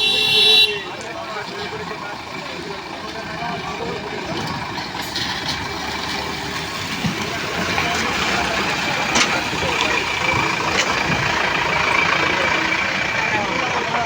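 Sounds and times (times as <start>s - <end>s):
vehicle engines idling: 0.0s - 14.0s.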